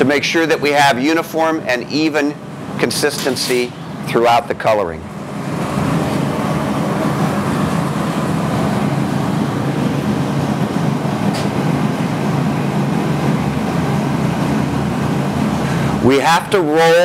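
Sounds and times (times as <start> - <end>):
furnace burner rumbling: 0.0 - 17.0.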